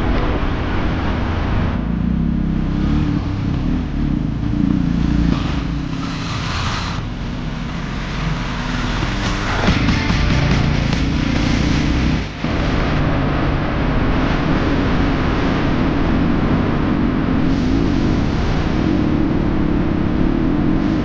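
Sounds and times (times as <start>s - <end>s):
motorcycle engine at low revs: 0.0s - 21.0s
rushing noise: 0.0s - 21.0s.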